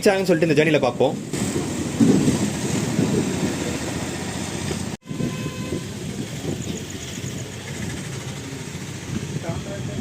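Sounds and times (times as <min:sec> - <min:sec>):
train wheels rumbling on track: 0:00.3 - 0:10.0.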